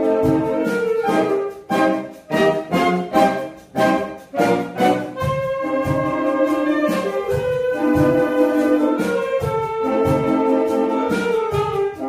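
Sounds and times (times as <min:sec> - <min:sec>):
saxophone ensemble playing chords: 0:00.0 - 0:12.0.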